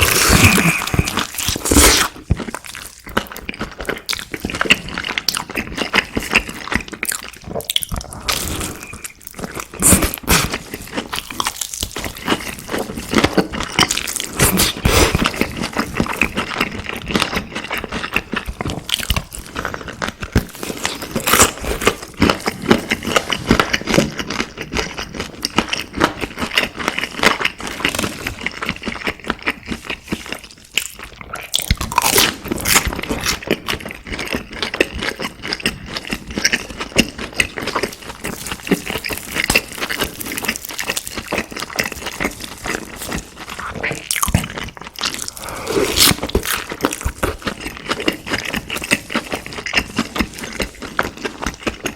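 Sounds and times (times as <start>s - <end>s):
crunchy chewing of fried food: 0.0s - 51.9s.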